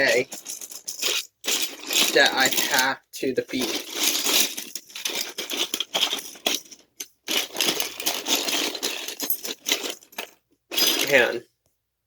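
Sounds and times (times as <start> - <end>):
small plastic parts clattering: 0.0 - 11.4.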